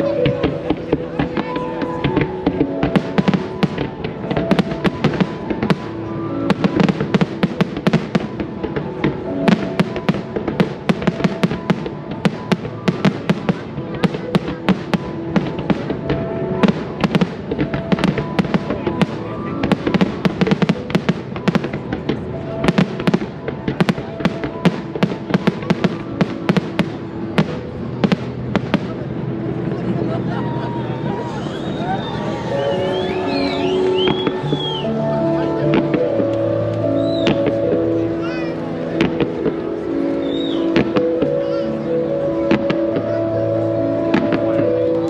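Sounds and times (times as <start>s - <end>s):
fireworks bursting and crackling: 0.0s - 45.0s
music playing: 0.0s - 45.0s.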